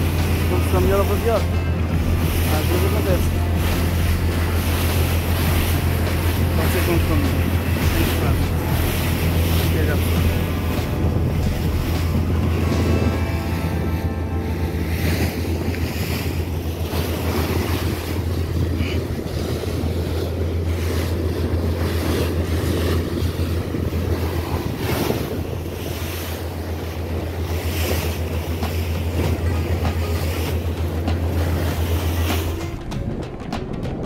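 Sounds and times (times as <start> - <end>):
motorboat engine drone: 0.0 - 34.0
water rushing along hull: 0.0 - 34.0
wind buffeting microphone: 0.0 - 34.0.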